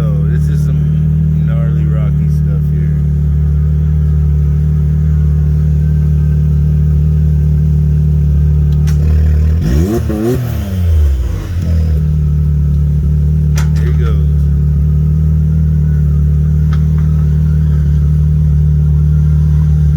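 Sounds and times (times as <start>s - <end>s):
engine idling and revving: 0.0s - 19.9s.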